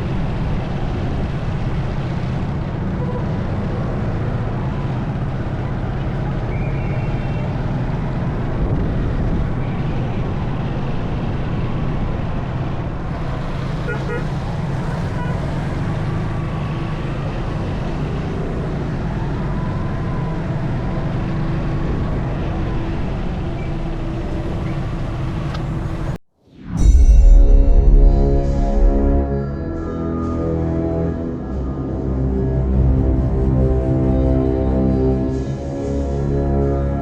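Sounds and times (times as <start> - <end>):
surrounding traffic noise: 0.0 - 26.2, 29.1 - 37.0.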